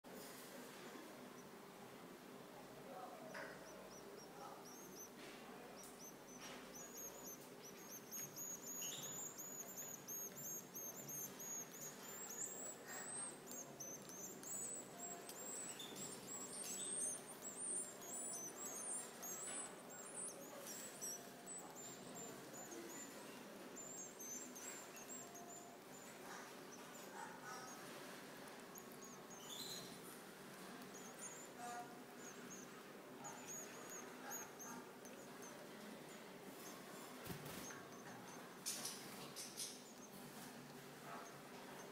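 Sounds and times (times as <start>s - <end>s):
faint steady hum: 0.1s - 41.9s
nestlings begging calls: 2.7s - 41.9s.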